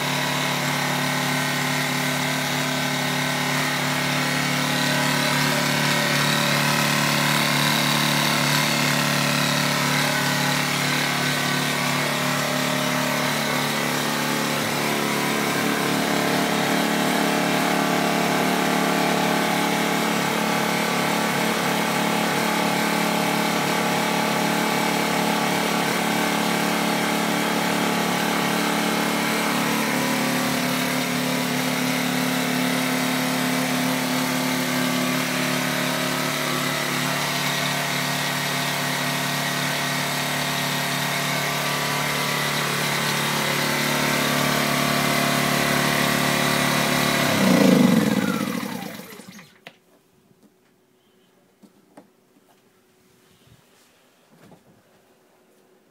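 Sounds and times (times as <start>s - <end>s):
generator engine running: 0.0s - 49.6s.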